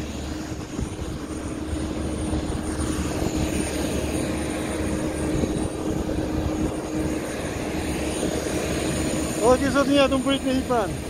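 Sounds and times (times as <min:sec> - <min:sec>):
jet turbine whine and drone: 0:00.0 - 0:11.0.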